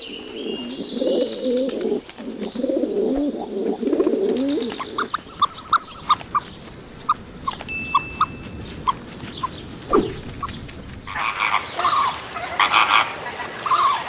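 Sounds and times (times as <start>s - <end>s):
pigeons cooing: 0.0s - 6.5s, 8.8s - 14.0s.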